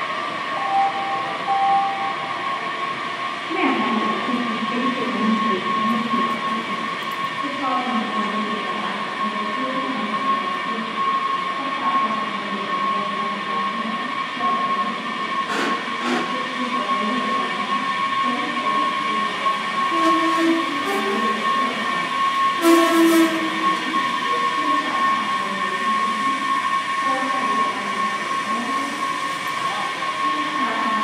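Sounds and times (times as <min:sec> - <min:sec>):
train electrical whine: 0:00.0 - 0:31.0.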